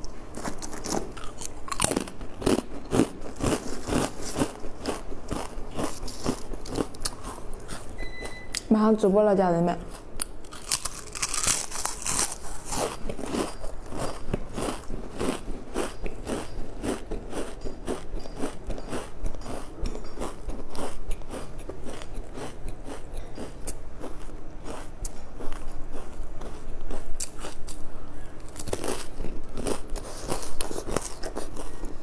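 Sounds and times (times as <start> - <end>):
person chewing crunchy snacks: 0.0 - 8.0, 9.9 - 32.0.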